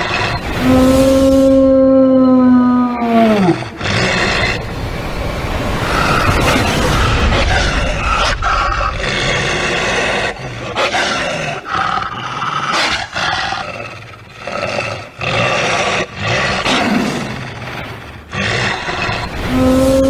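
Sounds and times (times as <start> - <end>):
rough loud roars: 0.0 - 20.0.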